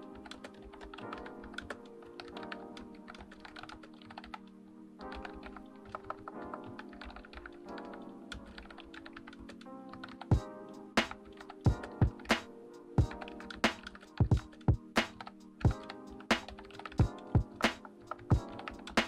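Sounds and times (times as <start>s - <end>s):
fast typing on keyboard: 0.0s - 4.5s, 5.1s - 10.4s, 11.0s - 19.0s.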